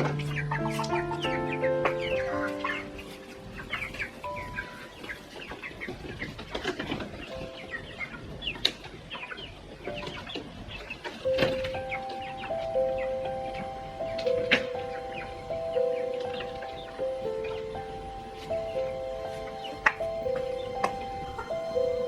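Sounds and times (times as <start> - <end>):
soft background music: 0.0 - 9.2, 9.8 - 22.0
chickens clucking: 0.0 - 22.0.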